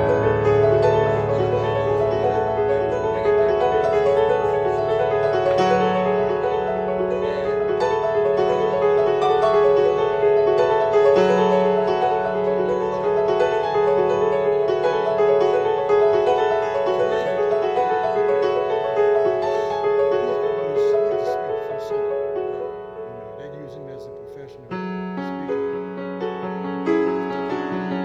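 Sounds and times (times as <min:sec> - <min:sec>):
piano chords: 0:00.0 - 0:28.0.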